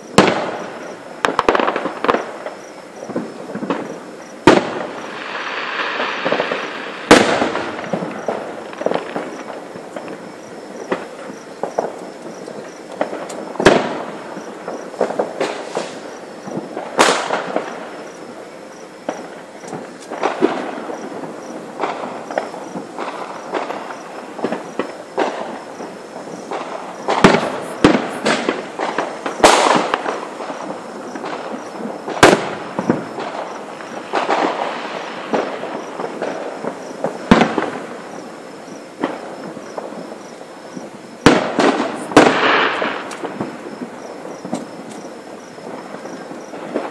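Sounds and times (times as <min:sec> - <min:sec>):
firework bangs: 0:00.0 - 0:46.9
fireworks crackling and popping: 0:00.0 - 0:46.9.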